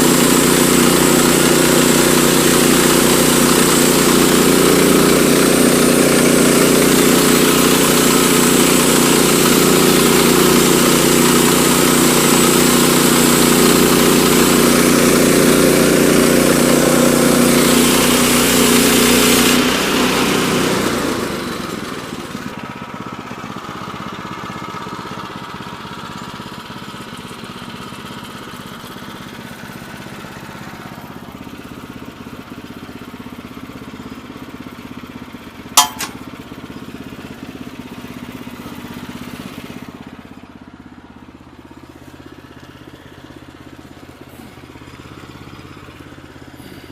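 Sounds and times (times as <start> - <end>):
gasoline engine running: 0.0 - 46.9.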